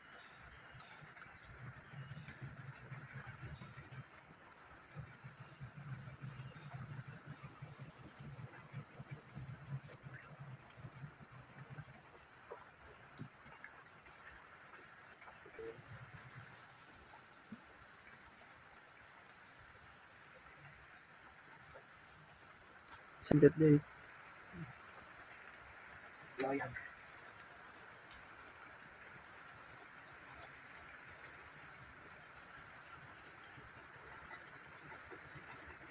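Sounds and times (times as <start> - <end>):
high-pitched insect chorus: 0.0 - 35.9.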